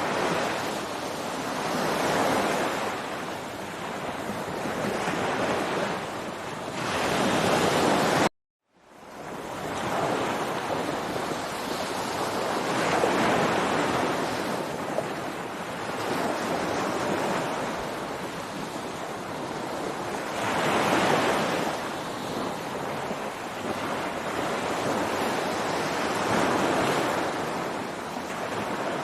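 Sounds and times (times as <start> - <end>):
waves breaking on beach: 0.0 - 8.3, 8.9 - 29.0.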